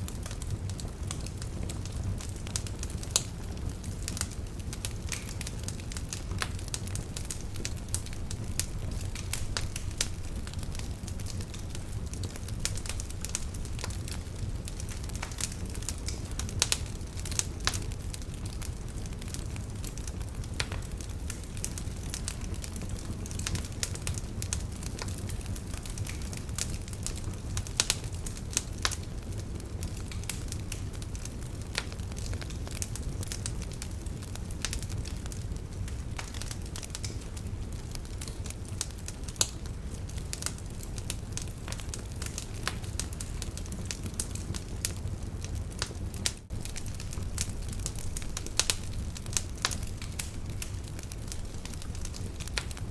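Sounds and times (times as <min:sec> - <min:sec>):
low rumble of flames: 0:00.0 - 0:52.9
wood fire crackling: 0:00.0 - 0:52.9
sharp pops from fire: 0:00.2 - 0:52.9.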